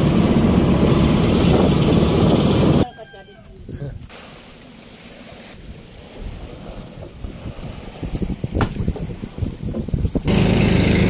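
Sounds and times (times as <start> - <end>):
wind buffeting microphone: 0.0 - 4.1, 5.6 - 10.5
water washing at shoreline: 0.0 - 11.0.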